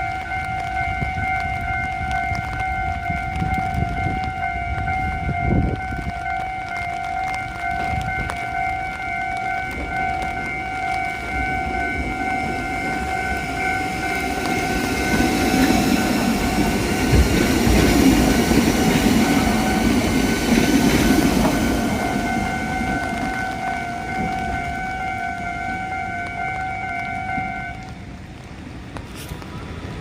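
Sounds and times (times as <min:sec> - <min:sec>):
crossing warning bell ringing: 0:00.0 - 0:28.0
electric train passing: 0:00.0 - 0:30.0.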